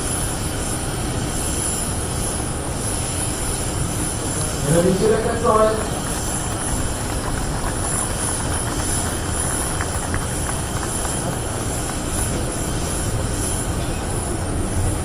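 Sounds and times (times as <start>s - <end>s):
aircraft engine: 0.0s - 15.0s.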